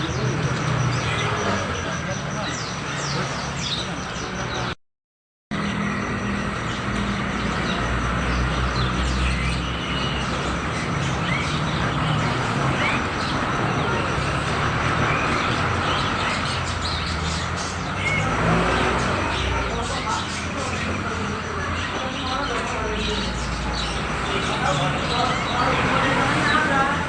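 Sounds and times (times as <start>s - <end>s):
low rumble of road traffic: 0.0s - 4.8s, 5.5s - 27.0s
songbirds chirping: 0.0s - 4.8s, 5.5s - 27.0s.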